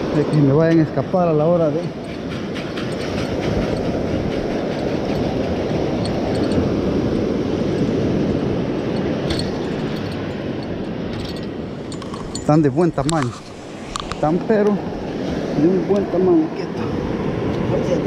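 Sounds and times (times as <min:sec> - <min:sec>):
wind: 0:00.0 - 0:18.0
breaking surf: 0:02.8 - 0:18.0.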